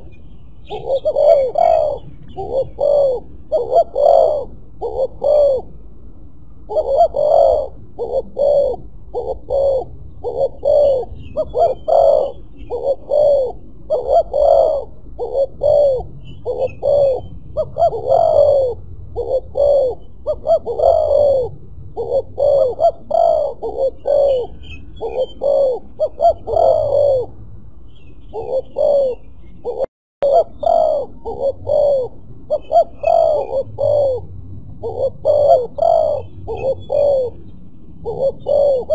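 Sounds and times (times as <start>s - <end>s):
dove cooing: 0.0s - 5.7s, 6.7s - 27.4s, 28.2s - 37.4s, 38.0s - 38.9s.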